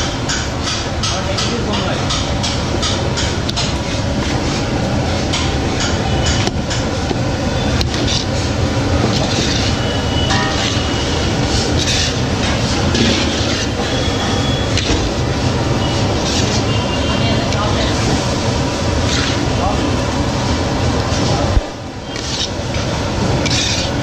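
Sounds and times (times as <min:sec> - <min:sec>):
machinery rumbling: 0:00.0 - 0:24.0.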